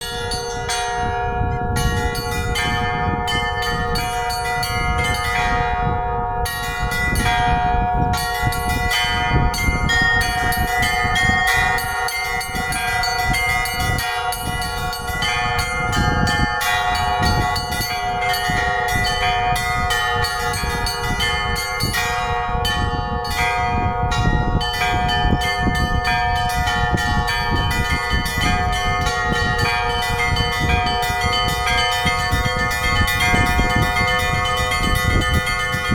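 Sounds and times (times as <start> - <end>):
church bells pealing: 0.0 - 35.9.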